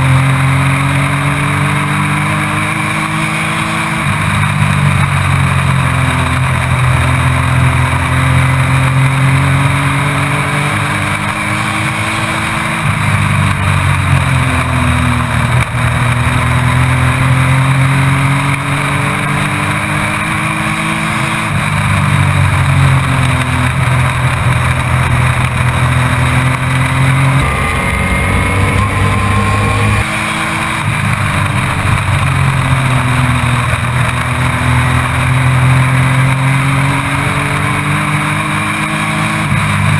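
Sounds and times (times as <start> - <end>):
race truck engine revving: 0.0 - 39.9
road and wind noise: 0.0 - 39.9.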